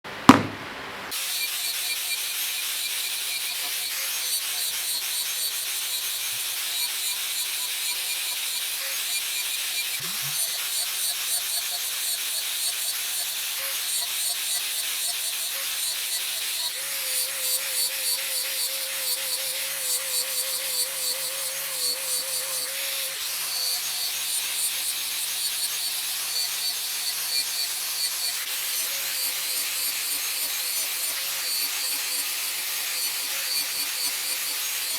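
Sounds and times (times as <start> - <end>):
angle grinder abrading wood: 0.3 - 34.9.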